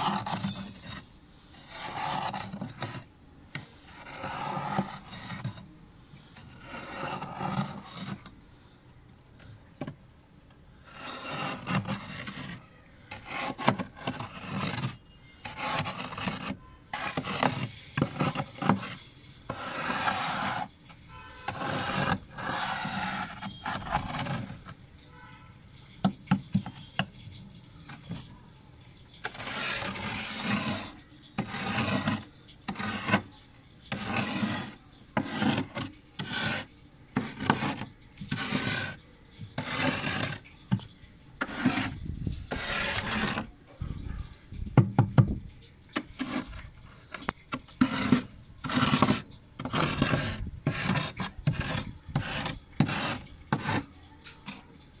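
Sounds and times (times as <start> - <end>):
metal spoon scraping frost: 0.0 - 8.4, 10.8 - 25.0, 25.8 - 44.4, 45.5 - 55.0.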